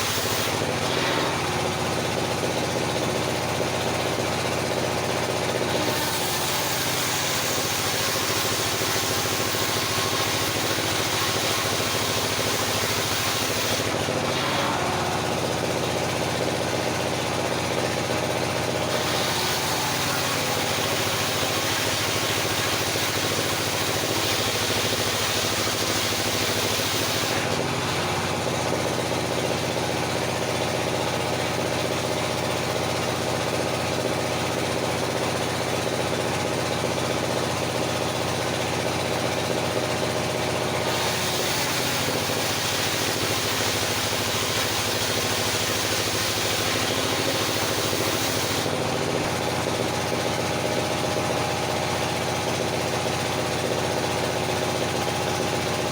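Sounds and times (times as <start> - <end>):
circular sawmill running: 0.0 - 55.9.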